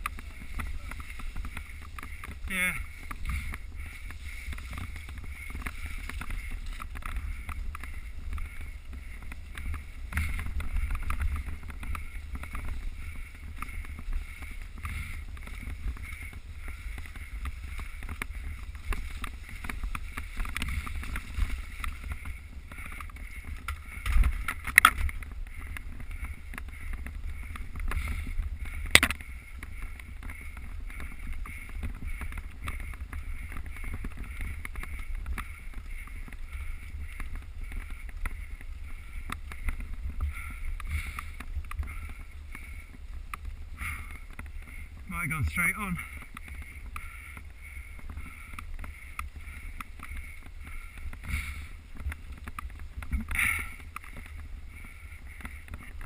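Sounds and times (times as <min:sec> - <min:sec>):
bike riding noise: 0:00.0 - 0:56.0
wind rumble on microphone: 0:00.0 - 0:56.0.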